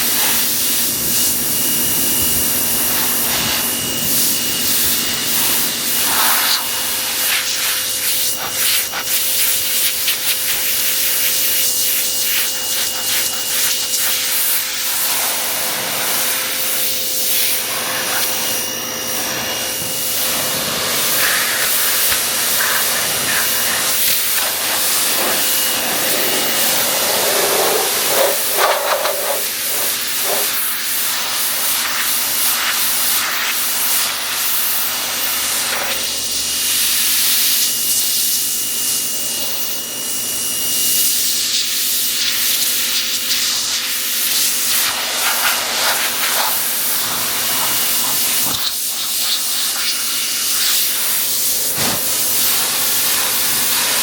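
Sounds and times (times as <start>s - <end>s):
pressure washer spraying: 0.0s - 39.7s, 40.8s - 54.0s.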